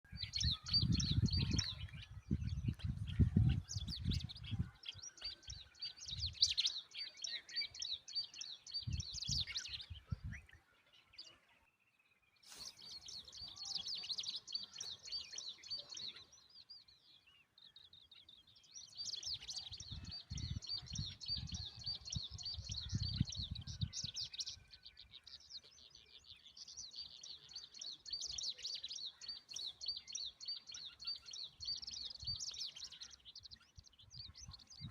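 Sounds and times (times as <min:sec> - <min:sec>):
bird chirping: 0:00.0 - 0:34.9.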